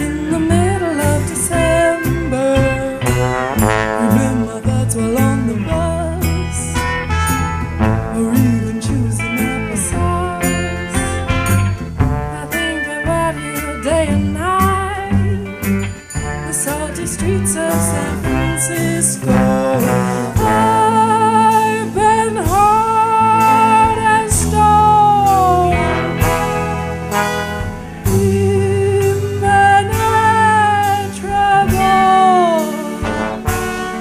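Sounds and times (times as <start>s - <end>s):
folk blues band song: 0.0s - 34.0s
guitar: 0.0s - 34.0s
sliding lead melody: 0.0s - 34.0s
steady bass: 0.0s - 34.0s.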